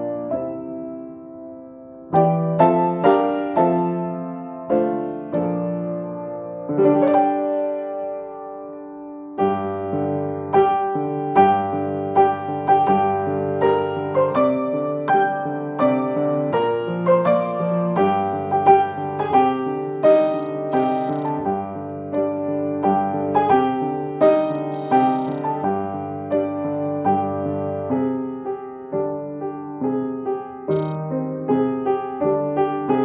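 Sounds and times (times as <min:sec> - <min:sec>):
grand piano playing: 0:00.0 - 0:33.0.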